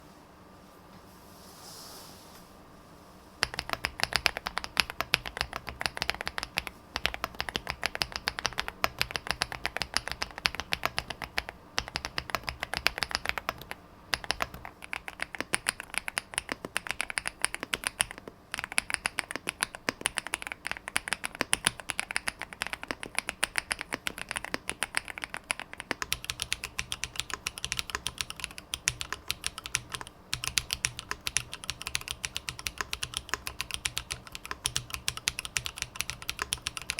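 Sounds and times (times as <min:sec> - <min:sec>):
mechanical keyboard typing: 0:03.4 - 0:36.9.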